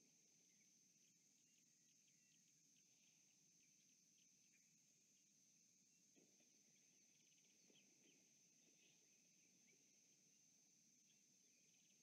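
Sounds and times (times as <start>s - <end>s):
faint bird chirps: 0.0s - 12.0s
high insect drone: 0.0s - 12.0s.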